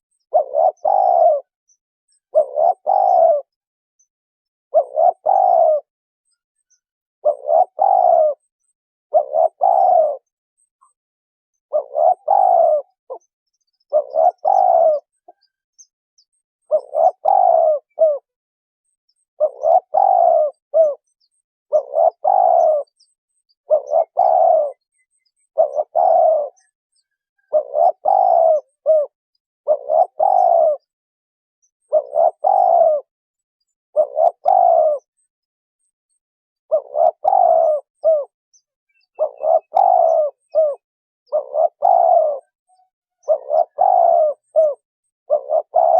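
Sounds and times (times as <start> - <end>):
dove cooing: 0.0 - 3.6, 4.7 - 5.9, 7.2 - 8.5, 9.1 - 11.0, 11.7 - 15.6, 16.6 - 18.4, 19.4 - 31.0, 31.8 - 35.1, 36.7 - 38.4, 39.0 - 45.9.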